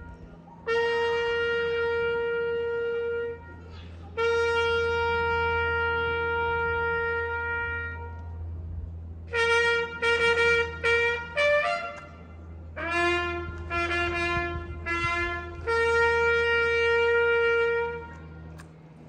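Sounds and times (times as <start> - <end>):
solo trumpet salute call: 0.0 - 8.5, 9.3 - 18.5.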